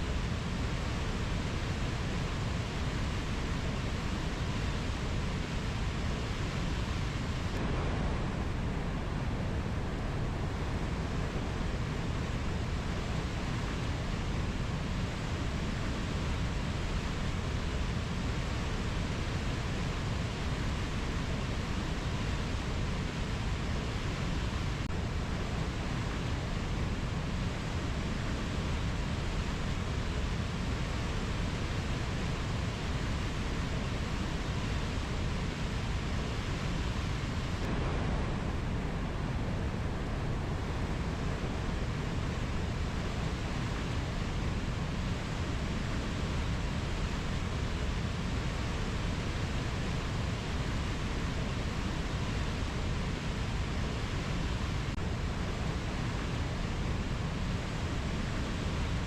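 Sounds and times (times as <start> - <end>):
steady rushing nature ambience: 0.0 - 59.0.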